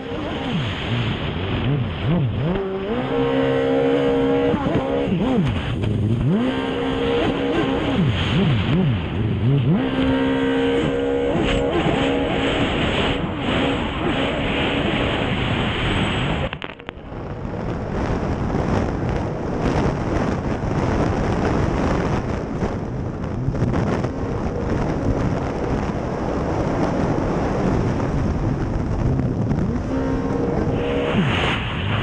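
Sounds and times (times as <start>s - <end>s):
powerboat engine: 0.0s - 32.0s
wind and spray rushing over microphone: 0.0s - 32.0s.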